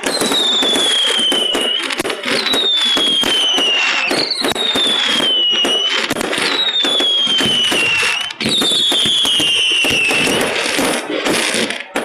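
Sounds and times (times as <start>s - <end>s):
falling firework whistles: 0.0s - 12.0s
fireworks bangs and crackling: 0.0s - 12.0s.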